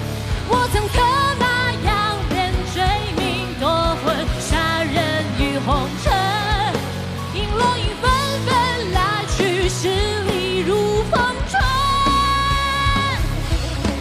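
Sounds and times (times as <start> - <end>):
rock song with wavering melody: 0.0 - 14.0.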